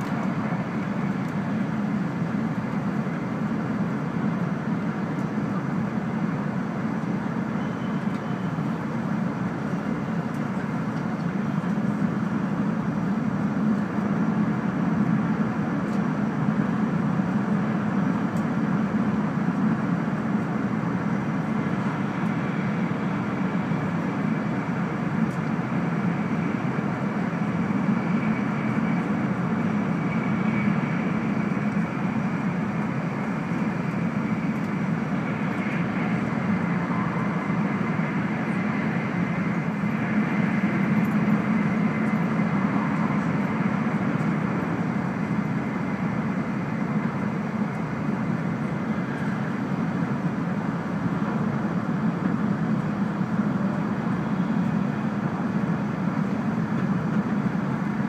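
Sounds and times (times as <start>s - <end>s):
high-speed train cabin drone: 0.0s - 58.0s
rushing hiss of wheels and air: 0.0s - 58.0s.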